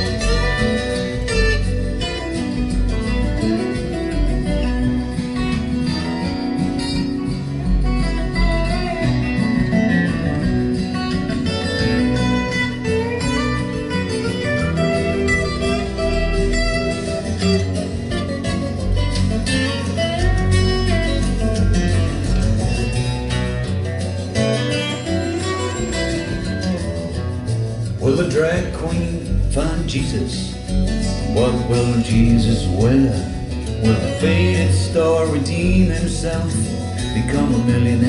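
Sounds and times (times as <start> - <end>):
plucked guitar lines: 0.0 - 38.0
steady bass: 0.0 - 38.0.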